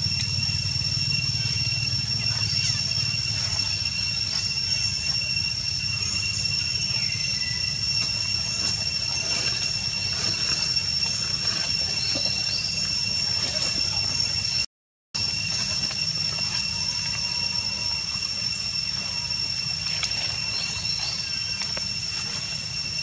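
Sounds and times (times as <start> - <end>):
faint chirps: 0.0 - 23.0
high-pitched whine: 0.0 - 23.0.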